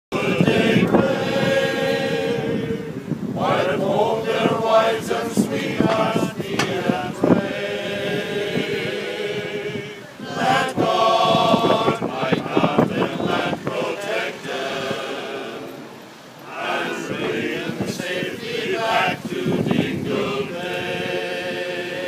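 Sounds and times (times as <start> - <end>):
male choir singing a cappella: 0.1 - 22.0.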